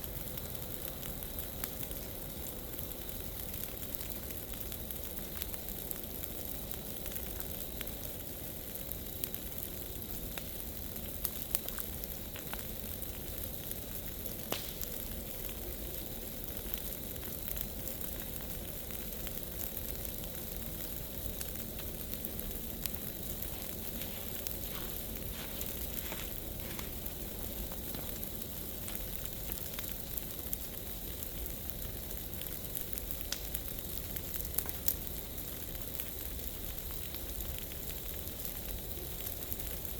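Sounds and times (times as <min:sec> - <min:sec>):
bonfire flames hissing: 0:00.0 - 0:39.9
fire crackling and popping: 0:00.0 - 0:39.9.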